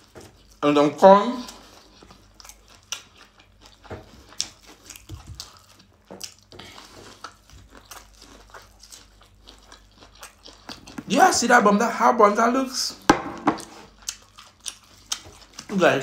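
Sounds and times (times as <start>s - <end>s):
chewing corn crunchily: 0.0s - 16.0s.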